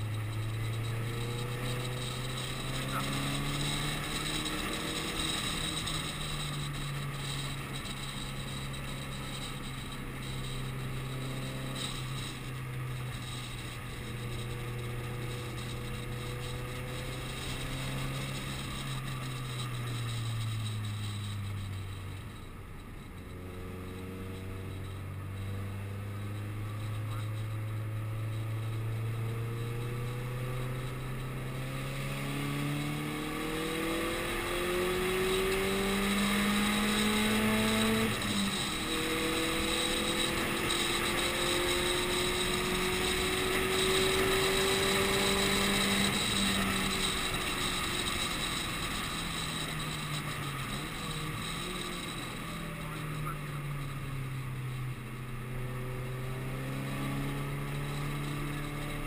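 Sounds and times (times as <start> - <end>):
car engine from inside cabin: 0.0 - 59.0.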